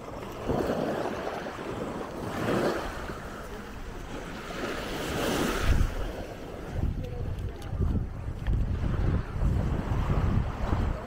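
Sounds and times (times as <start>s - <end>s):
small waves washing on sand: 0.0s - 11.0s
wind buffeting microphone: 0.0s - 11.0s.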